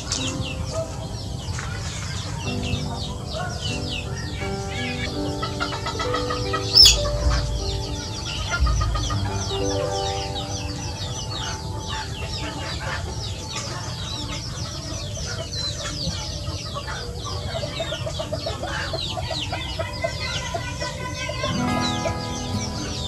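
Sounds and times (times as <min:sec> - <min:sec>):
chickens clucking: 0:00.0 - 0:23.0
chicks peeping: 0:00.0 - 0:23.0.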